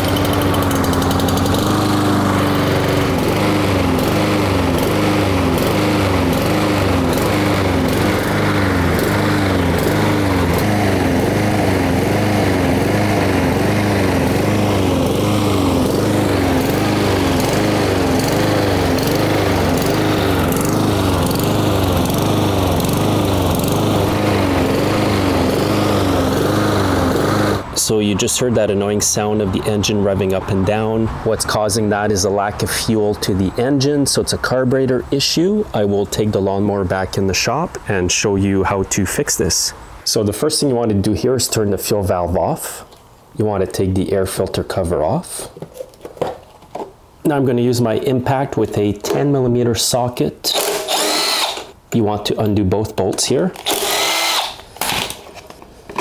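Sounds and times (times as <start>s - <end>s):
lawn mower engine surging: 0.0s - 42.8s, 47.8s - 56.0s.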